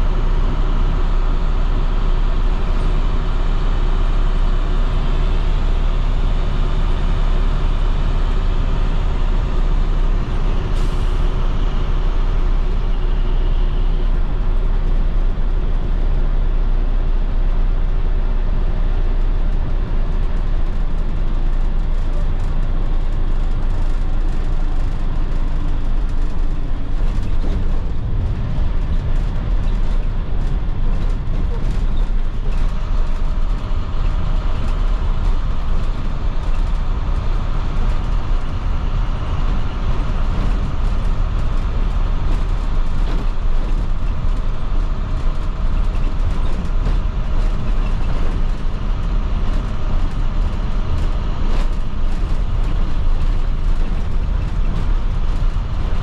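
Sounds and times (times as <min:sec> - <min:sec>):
diesel bus engine running: 0:00.0 - 0:56.0
road noise: 0:00.0 - 0:56.0.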